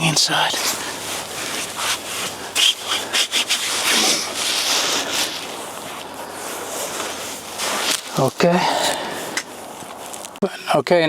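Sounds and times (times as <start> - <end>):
cloth rubbing on plastic: 0.0 - 10.4.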